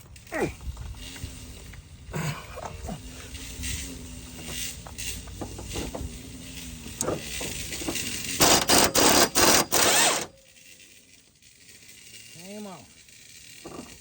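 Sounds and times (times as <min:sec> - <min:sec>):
pneumatic impact wrench hammering: 0:00.0 - 0:14.0.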